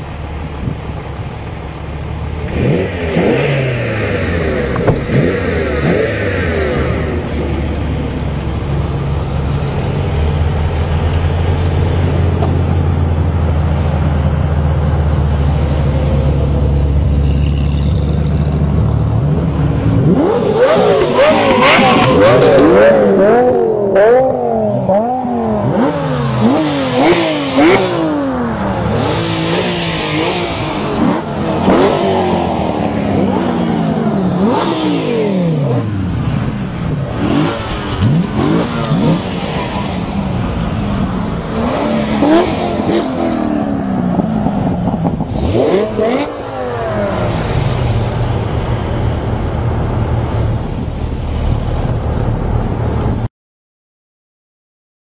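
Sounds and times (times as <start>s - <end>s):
sports car engines revving past: 1.8s - 53.3s.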